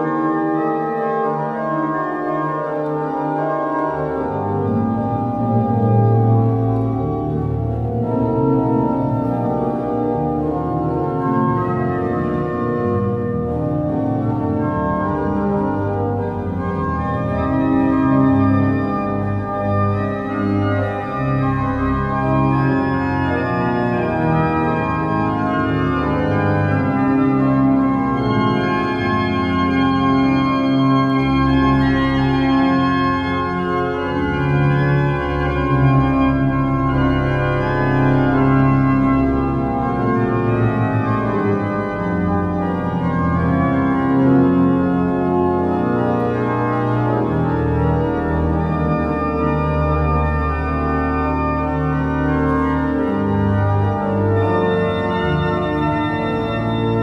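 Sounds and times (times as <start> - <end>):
organ pedal bass line: 0.0 - 57.0
pipe organ chords: 0.0 - 57.0.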